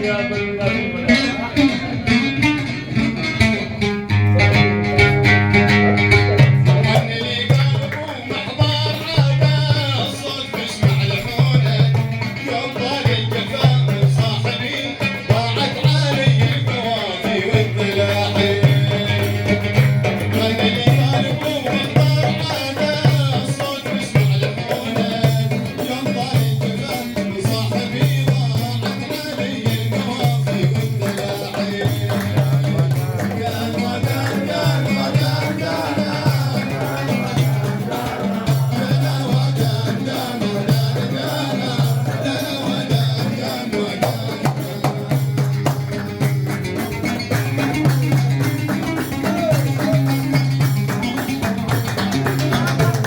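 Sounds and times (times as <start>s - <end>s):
rattling percussion: 0.0s - 53.0s
repeating drum rhythm: 0.0s - 53.0s.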